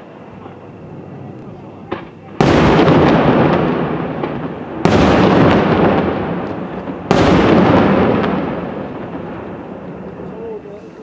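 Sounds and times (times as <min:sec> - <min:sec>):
firework shells bursting: 0:01.4 - 0:10.4.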